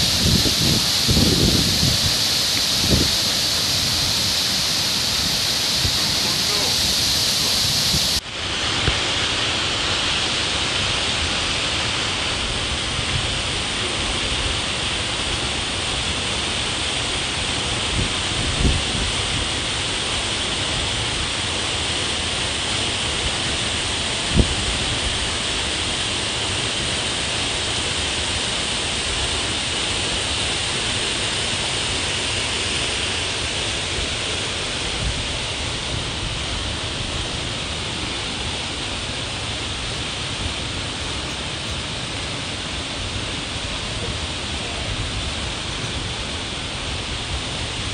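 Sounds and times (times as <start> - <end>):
waterfall splashing into pool: 0.0 - 47.9.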